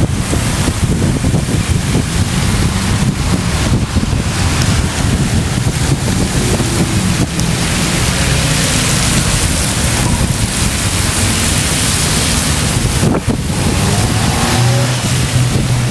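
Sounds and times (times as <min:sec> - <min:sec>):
wind rushing across microphone: 0:00.0 - 0:15.9.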